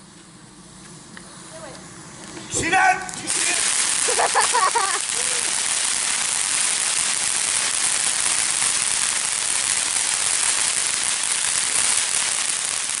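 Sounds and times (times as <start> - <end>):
firework spraying sparks hissing: 0.0 - 13.0.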